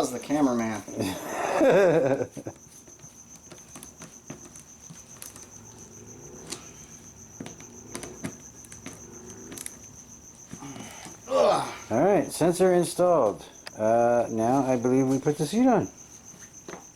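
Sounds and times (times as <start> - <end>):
crickets chirring: 0.0 - 16.9.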